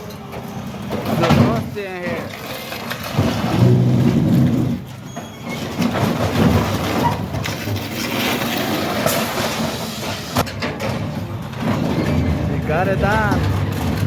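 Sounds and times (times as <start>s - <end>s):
metal screeching and grinding: 0.0s - 14.0s.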